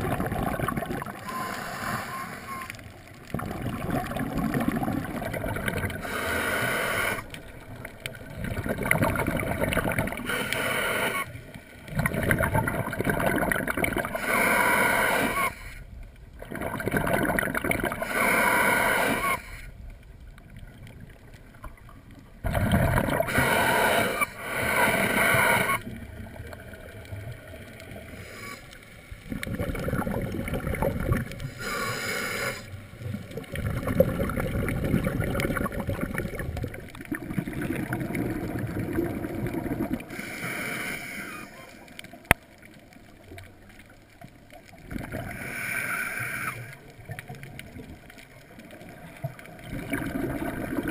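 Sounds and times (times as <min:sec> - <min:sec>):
exhaled bubbles gurgling underwater: 0:00.0 - 0:50.9
low water noise: 0:00.0 - 0:50.9.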